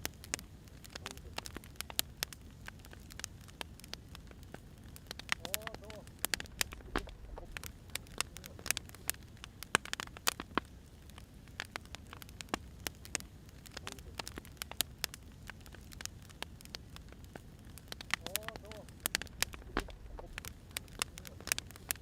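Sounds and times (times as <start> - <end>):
firewood crackling and popping: 0.0 - 22.0.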